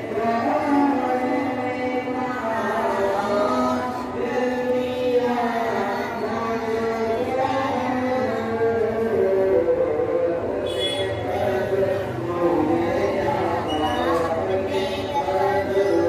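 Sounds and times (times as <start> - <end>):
person chanting a slow melody: 0.0 - 16.0.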